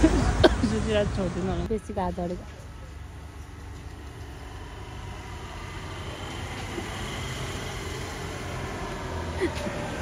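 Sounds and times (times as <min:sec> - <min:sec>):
road vehicle rumble: 0:00.0 - 0:10.0.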